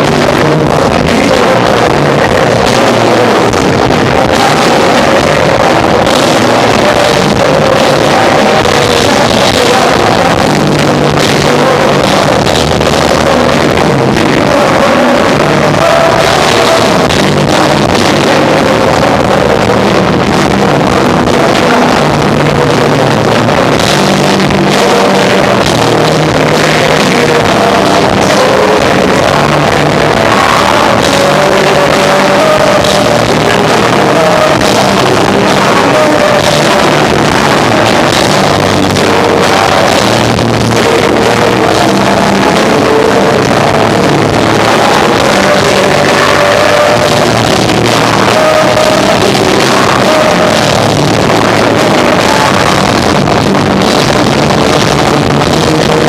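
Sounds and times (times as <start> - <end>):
bass guitar line: 0.0 - 56.0
electric guitar: 0.0 - 56.0.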